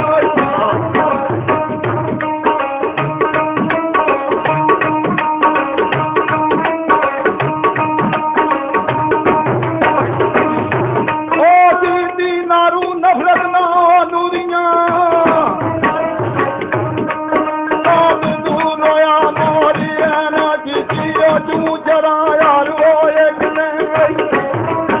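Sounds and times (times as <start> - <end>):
hand drum beat: 0.0 - 25.0.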